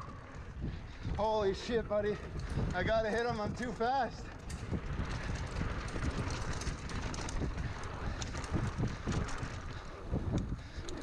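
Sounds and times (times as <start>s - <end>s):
bike knocking and rattling: 0.0s - 11.0s
wind buffeting microphone: 0.0s - 11.0s.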